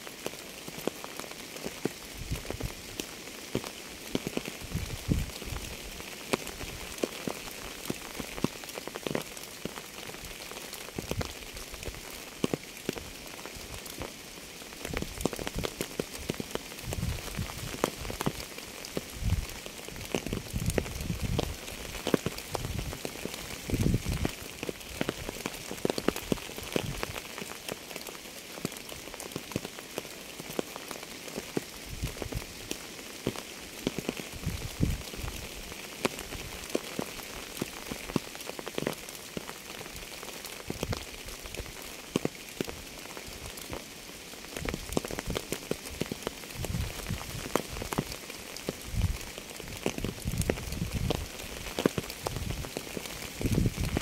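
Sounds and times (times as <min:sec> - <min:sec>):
steady rain falling: 0:00.0 - 0:54.0
heavy raindrop striking close by: 0:00.2 - 0:54.0.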